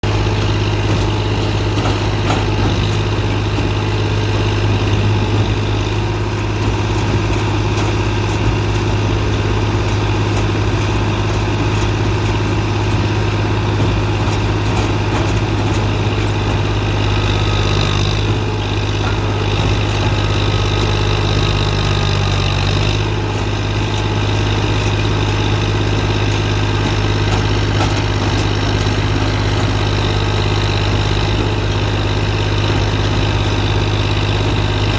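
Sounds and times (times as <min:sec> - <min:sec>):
baling machine humming: 0:00.0 - 0:34.9.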